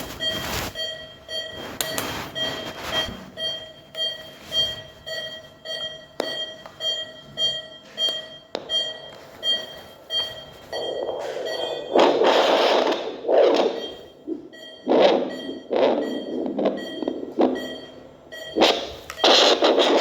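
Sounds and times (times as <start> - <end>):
short electronic beeps: 0.0 - 20.0.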